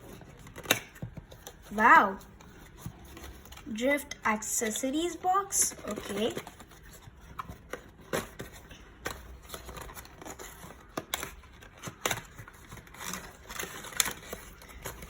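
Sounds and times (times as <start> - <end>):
cardboard rustling and scraping: 0.0 - 3.8, 4.6 - 15.0.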